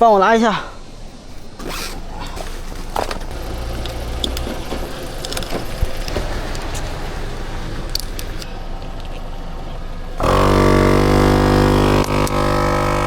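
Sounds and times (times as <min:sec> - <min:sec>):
vehicle engine idling: 0:00.8 - 0:13.0.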